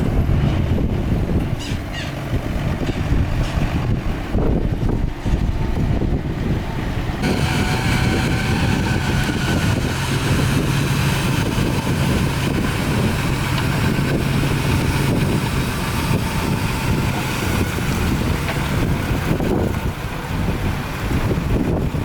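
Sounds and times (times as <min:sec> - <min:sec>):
heavy diesel machinery running: 0:00.0 - 0:22.0
wind noise on microphone: 0:00.0 - 0:22.0.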